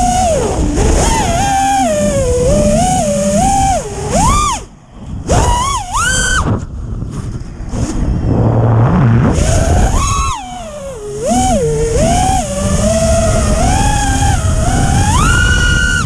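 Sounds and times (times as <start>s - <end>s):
quadcopter motors whining: 0.0s - 6.7s, 9.2s - 16.0s
rush of air: 0.0s - 16.0s.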